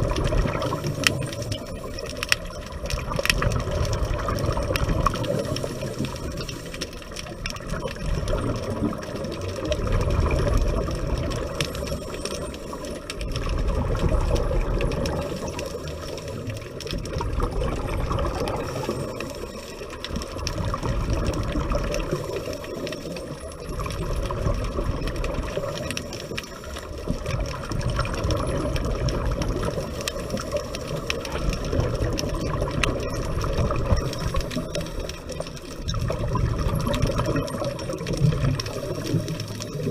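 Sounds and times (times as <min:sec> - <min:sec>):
exhaled bubbles rumbling underwater: 0:00.0 - 0:39.9.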